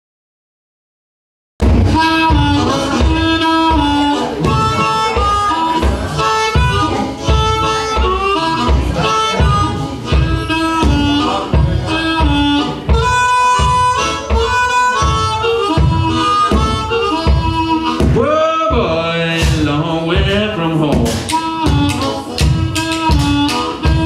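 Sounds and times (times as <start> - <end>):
amplified harmonica: 1.6 - 20.1, 21.2 - 24.0
live blues band: 1.6 - 24.0.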